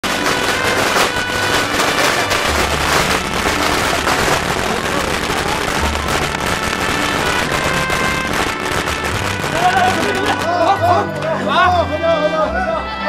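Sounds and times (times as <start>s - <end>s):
firecrackers crackling: 0.0s - 11.6s
festive music: 0.0s - 13.0s.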